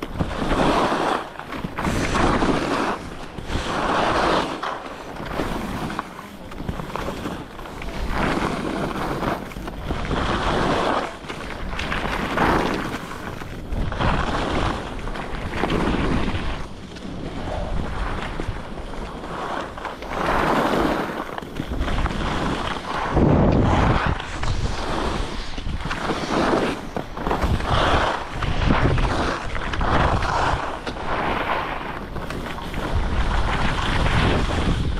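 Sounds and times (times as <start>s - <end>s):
skis scraping packed snow: 0.0s - 34.9s
wind on microphone: 0.0s - 34.9s.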